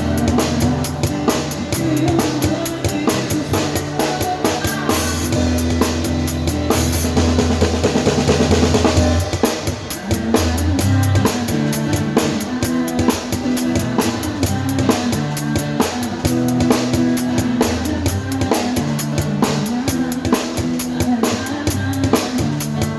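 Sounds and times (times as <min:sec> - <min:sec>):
acoustic guitar: 0:00.0 - 0:22.9
drum kit beat with rimshots: 0:00.0 - 0:22.9.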